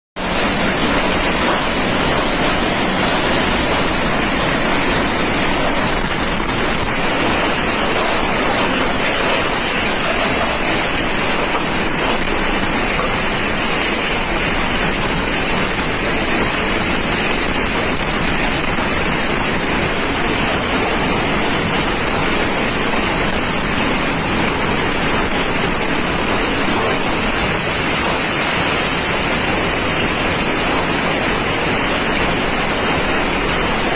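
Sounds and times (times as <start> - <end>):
heavy rain: 0.2 - 33.9.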